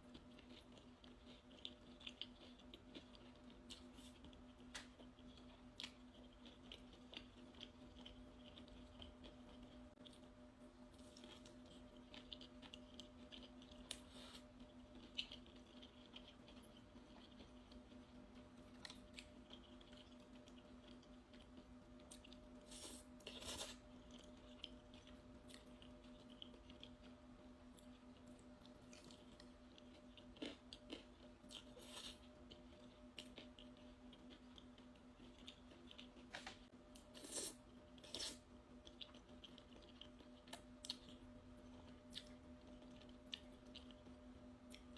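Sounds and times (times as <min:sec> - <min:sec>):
soft chewing: 0:00.0 - 0:44.9
steady low hum: 0:00.0 - 0:44.9.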